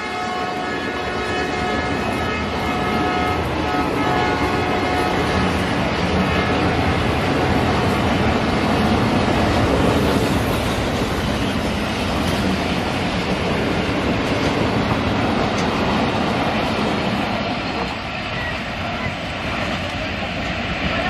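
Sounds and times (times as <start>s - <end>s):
train wheels rushing on rails: 0.0s - 21.0s.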